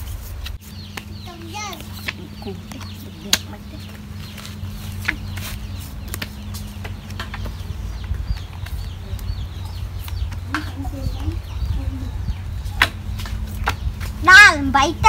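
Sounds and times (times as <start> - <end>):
chickens clucking: 0.8 - 14.3.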